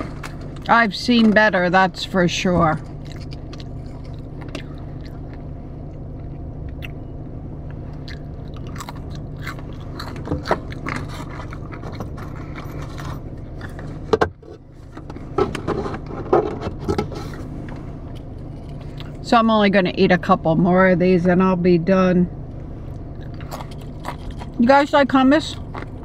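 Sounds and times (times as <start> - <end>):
biting and chewing: 0.0 - 1.6, 2.4 - 19.2, 22.9 - 26.0
steady low hum: 0.0 - 26.0.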